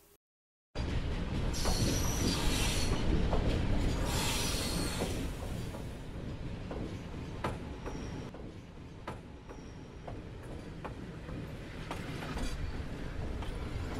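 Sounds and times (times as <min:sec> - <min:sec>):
train rumbling on rails: 0:00.8 - 0:13.9.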